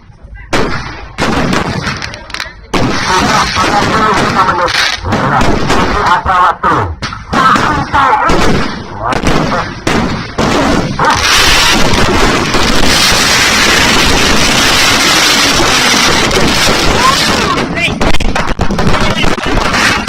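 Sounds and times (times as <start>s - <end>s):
firecracker crackle: 0.4s - 20.0s
firework bangs: 0.4s - 20.0s.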